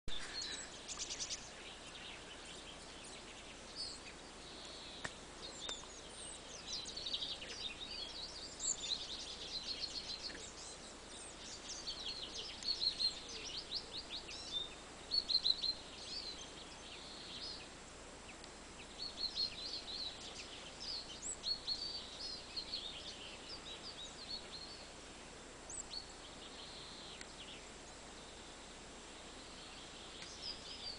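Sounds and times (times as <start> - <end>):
faint steady background noise: 0.1 - 30.9
songbirds trilling and chirping: 0.1 - 30.9.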